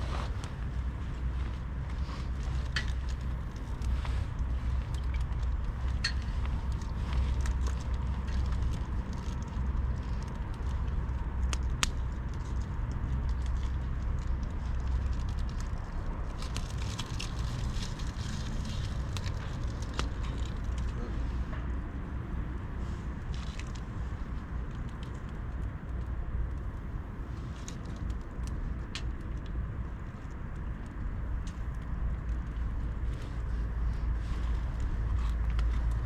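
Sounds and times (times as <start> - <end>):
kindling crackling: 0.0 - 36.0
wind on microphone: 0.0 - 36.0.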